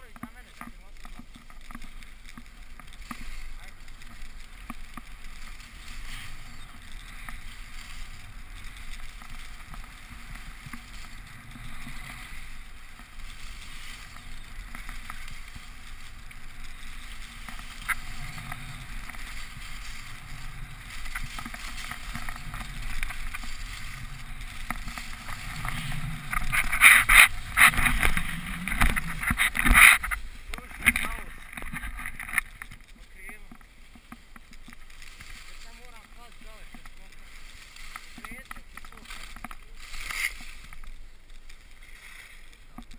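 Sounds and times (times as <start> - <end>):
knocks and crunches of falling in snow: 0.0 - 42.9
skis hissing over snow: 0.0 - 42.9.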